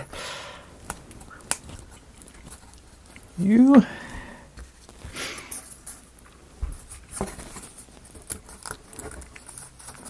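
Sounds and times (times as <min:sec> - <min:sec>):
soft rustle: 0:00.9 - 0:10.0.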